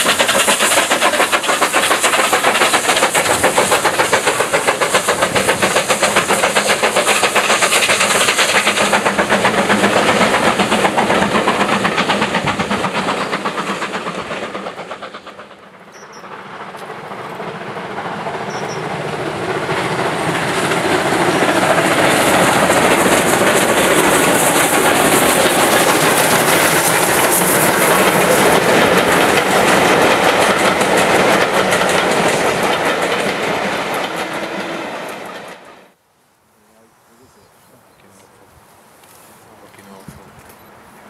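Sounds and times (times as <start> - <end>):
train wheels clattering on rail joints: 0.0 - 18.9, 19.6 - 35.8
steam locomotives passing: 0.0 - 41.0.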